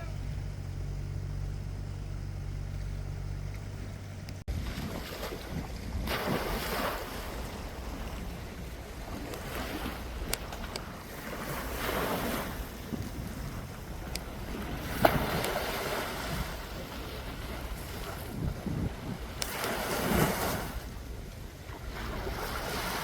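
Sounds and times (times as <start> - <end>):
steady low hum: 0.0 - 19.4
wind buffeting microphone: 3.9 - 23.0
sea waves washing in: 4.5 - 23.0.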